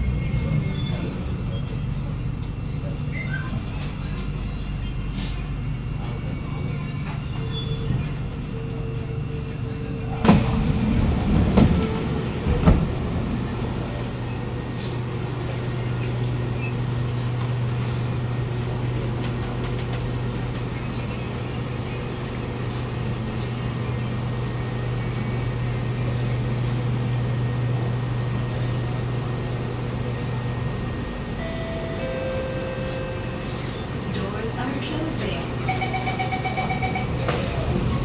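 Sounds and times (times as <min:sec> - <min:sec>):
metro train humming: 0:00.0 - 0:38.0.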